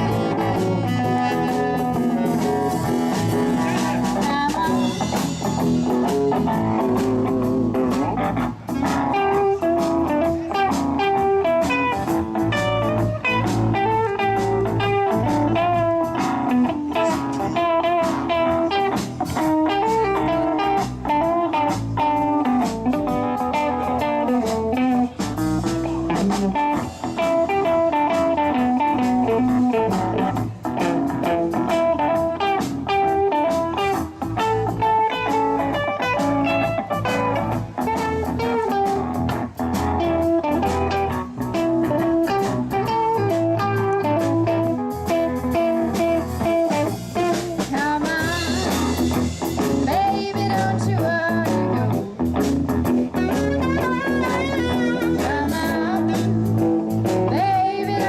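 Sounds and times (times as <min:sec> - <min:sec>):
bass guitar: 0:00.0 - 0:58.0
electric guitar: 0:00.0 - 0:58.0
lead melody line: 0:00.0 - 0:58.0
steady drum beat: 0:00.0 - 0:58.0.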